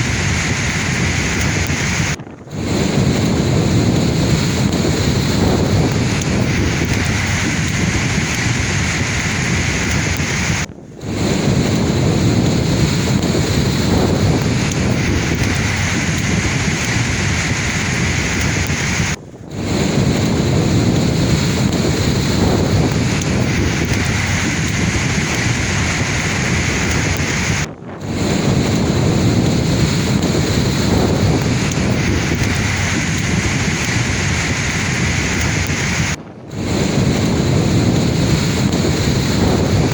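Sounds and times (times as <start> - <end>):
sea waves surf: 0.0 - 39.9.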